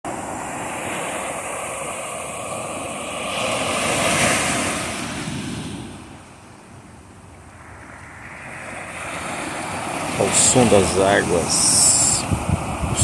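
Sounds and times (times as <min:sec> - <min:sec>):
ocean waves rushing: 0:00.1 - 0:13.0.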